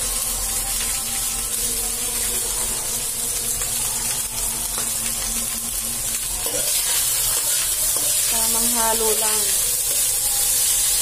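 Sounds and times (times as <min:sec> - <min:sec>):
rice sizzling in a wok: 0:00.0 - 0:11.0.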